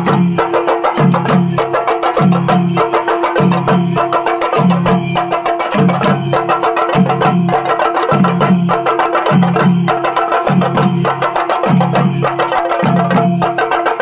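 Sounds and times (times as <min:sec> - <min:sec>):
drums beaten with sticks: 0:00.0 - 0:14.0
low repeating drum beat: 0:00.0 - 0:14.0.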